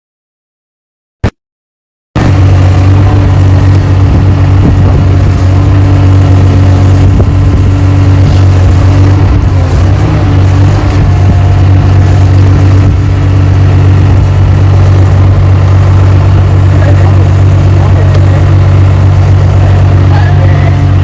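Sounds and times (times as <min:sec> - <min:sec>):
engine rumbling: 0:02.2 - 0:21.0.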